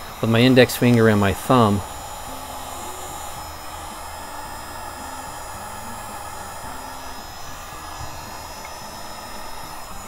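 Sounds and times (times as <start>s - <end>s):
heat gun fan blowing: 0.0s - 10.0s.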